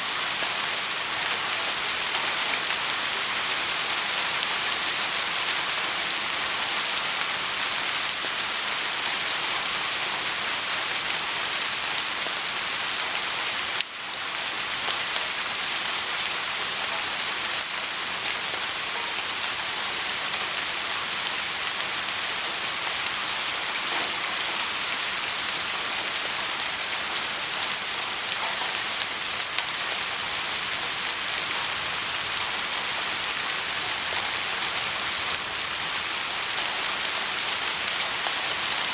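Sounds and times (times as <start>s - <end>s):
soft steady rainfall: 0.0s - 38.9s.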